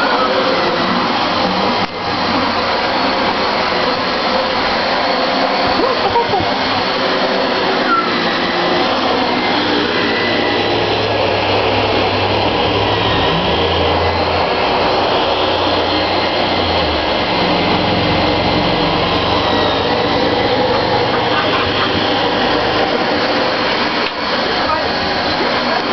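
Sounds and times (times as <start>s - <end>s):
vacuum cleaner running over carpet: 0.0s - 25.9s.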